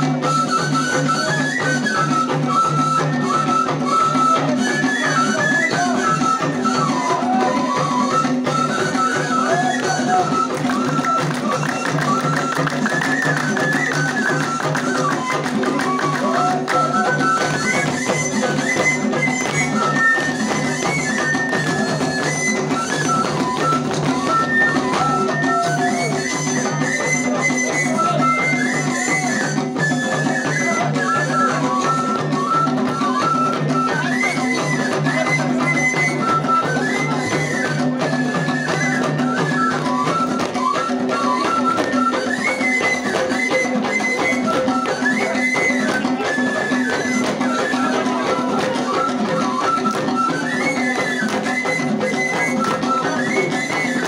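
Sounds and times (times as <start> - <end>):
drums and percussion: 0.0 - 54.0.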